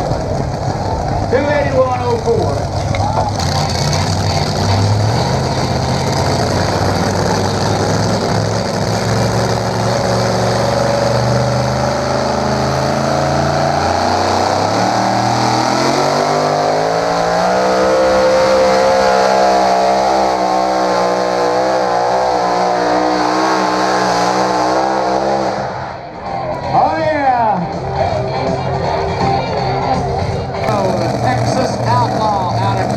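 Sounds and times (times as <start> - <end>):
vehicle engine running hard: 0.0 - 32.9.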